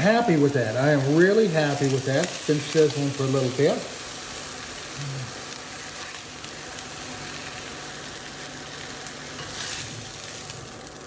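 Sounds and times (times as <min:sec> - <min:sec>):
fish sizzling in a skillet: 0:00.0 - 0:11.0.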